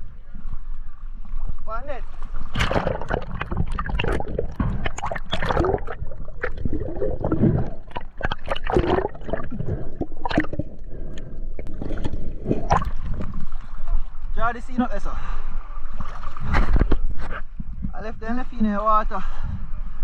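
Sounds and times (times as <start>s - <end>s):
water gurgling and sloshing: 0.0s - 18.8s
water splashes: 2.0s - 18.1s.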